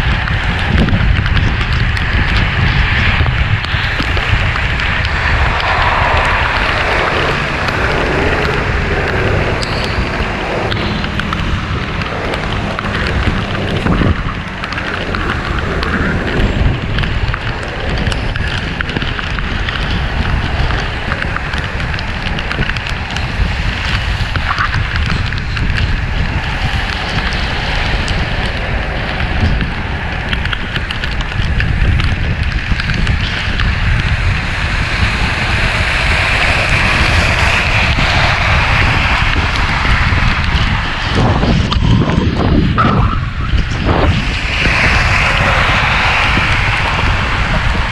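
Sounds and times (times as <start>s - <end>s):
traffic noise: 0.0s - 47.9s
wind buffeting microphone: 0.0s - 47.9s
wet road hiss: 3.1s - 25.4s, 26.0s - 41.3s, 43.9s - 47.9s.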